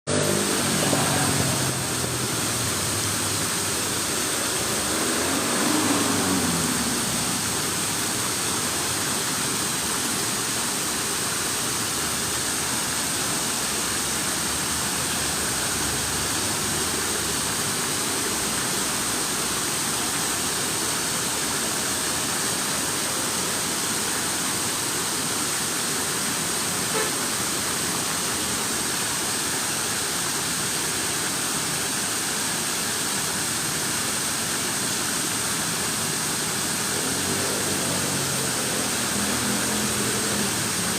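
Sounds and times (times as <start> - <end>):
running water rushing: 0.1 - 40.9.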